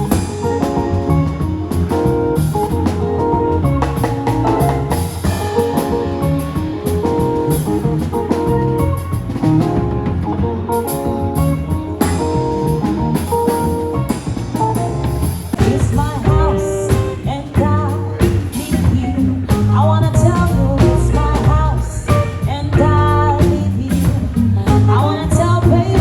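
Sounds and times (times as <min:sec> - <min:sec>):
drum kit beat: 0:00.0 - 0:26.0
guitar: 0:00.0 - 0:26.0
live band playing: 0:00.0 - 0:26.0.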